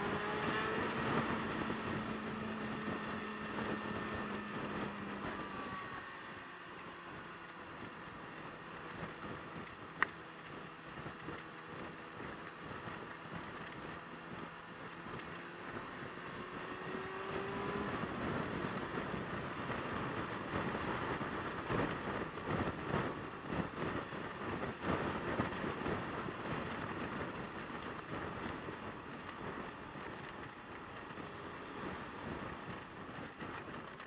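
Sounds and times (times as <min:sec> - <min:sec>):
motorcycle engine accelerating: 0:00.0 - 0:34.0
wind buffeting microphone: 0:00.0 - 0:34.0.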